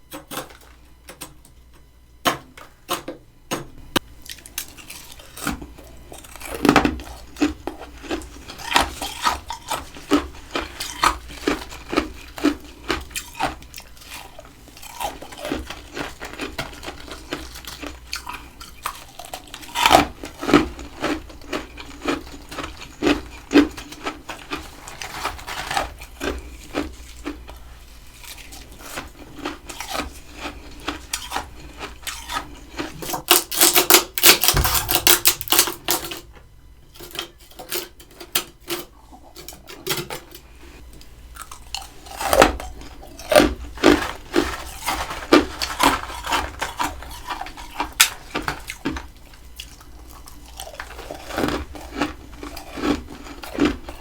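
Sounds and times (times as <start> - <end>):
frost crunching and cracking: 3.9 - 54.0.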